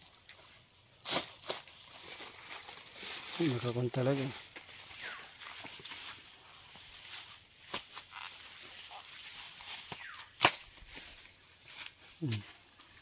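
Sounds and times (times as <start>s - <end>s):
dry grass and leaves rustling: 0.0s - 13.0s.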